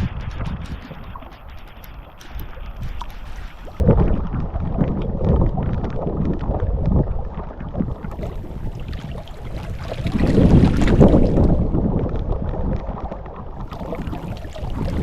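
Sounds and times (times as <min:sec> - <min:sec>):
wind gusting over microphone: 0:00.0 - 0:15.0.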